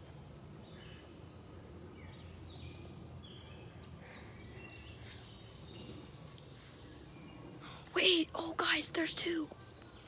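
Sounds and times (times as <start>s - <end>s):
birds chirping faintly: 0.0s - 10.0s
low outdoor background noise: 0.0s - 10.0s.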